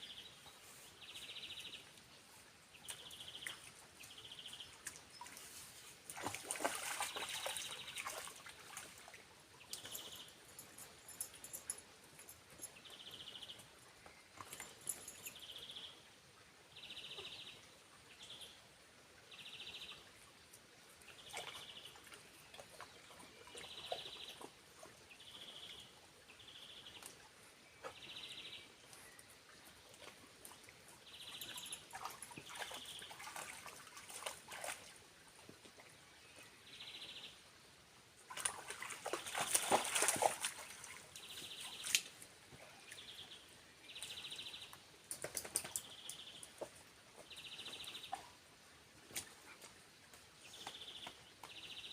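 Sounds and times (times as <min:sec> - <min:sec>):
faint water hiss: 0:00.0 - 0:51.9.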